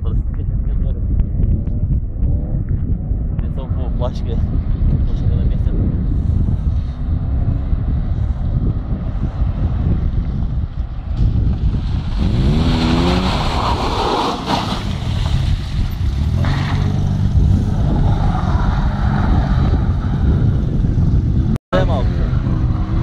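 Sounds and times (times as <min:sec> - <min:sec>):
car engines revving: 0:02.0 - 0:23.0.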